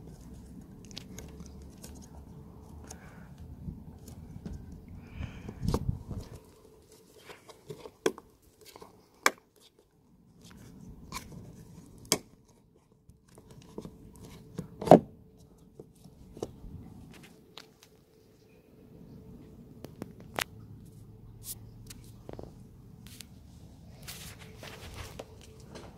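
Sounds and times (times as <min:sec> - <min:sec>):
soft handling rustle: 0:00.0 - 0:18.6, 0:19.3 - 0:25.9.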